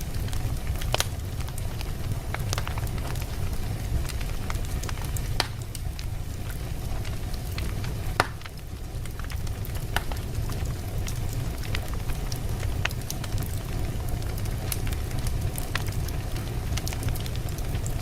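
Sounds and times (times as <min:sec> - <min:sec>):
fire flames rumbling: 0:00.0 - 0:18.0
wood crackling and popping: 0:00.0 - 0:18.0.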